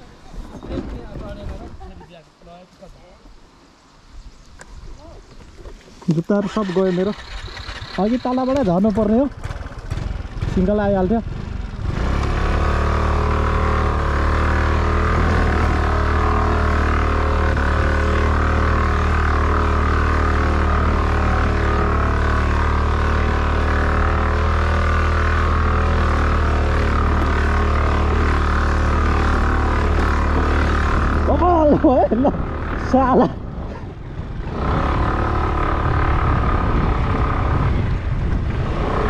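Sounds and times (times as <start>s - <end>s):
motorcycle engine running: 6.3s - 39.0s.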